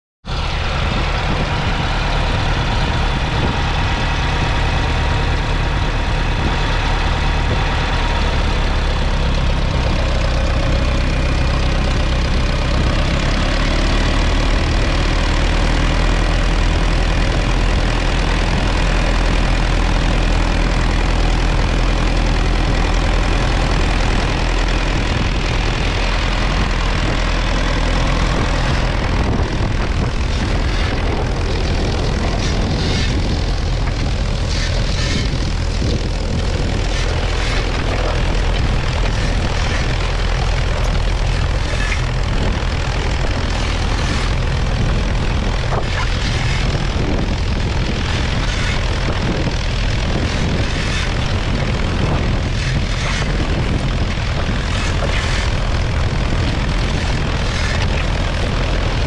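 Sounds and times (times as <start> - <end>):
tractor diesel engine running: 0.2 - 59.0.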